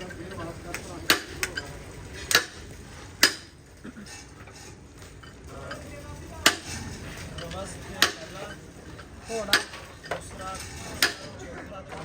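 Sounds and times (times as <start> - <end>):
metal tools clinking: 0.0 - 11.4
low workshop background: 0.0 - 12.0.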